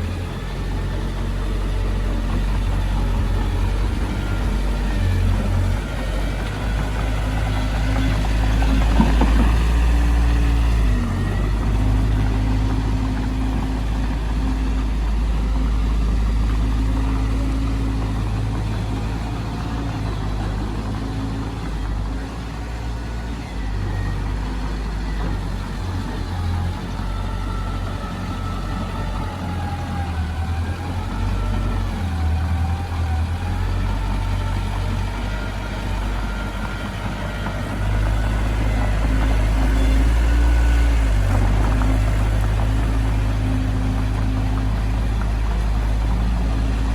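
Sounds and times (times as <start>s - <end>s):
diesel engine hum: 0.0s - 46.9s.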